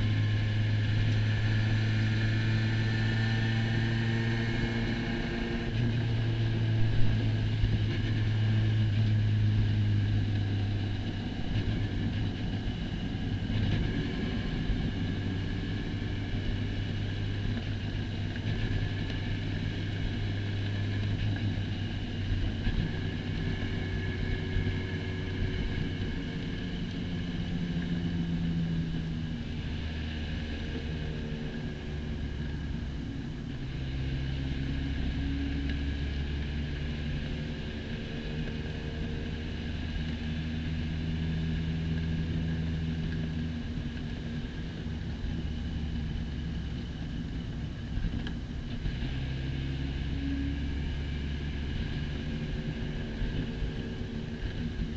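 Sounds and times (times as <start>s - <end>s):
race car engine running: 0.0s - 54.9s.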